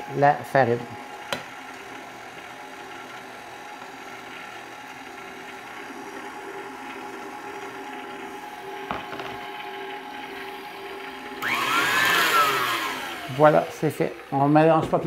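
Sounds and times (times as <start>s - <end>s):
stand mixer motor hum: 0.0s - 15.0s.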